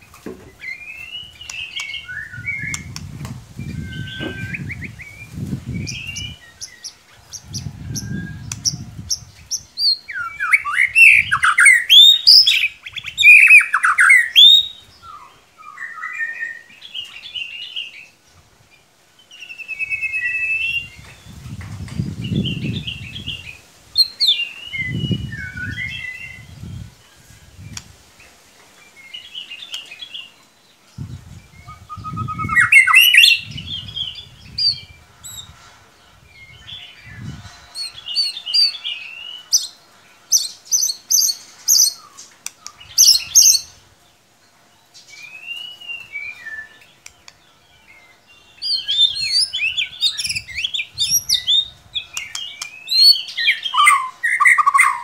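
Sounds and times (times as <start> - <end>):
bird singing whistled song: 0.6 - 18.0, 19.3 - 27.0, 31.0 - 35.5, 36.3 - 43.8, 45.0 - 55.0.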